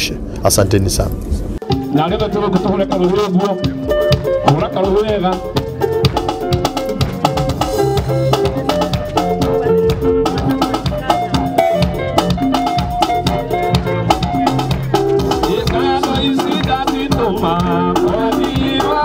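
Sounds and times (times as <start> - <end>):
music with drums: 1.6 - 19.0.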